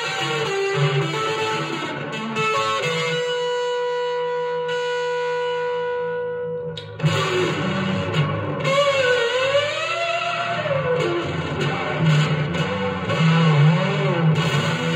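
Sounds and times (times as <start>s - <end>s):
fuzz electric guitar notes: 0.0s - 14.9s.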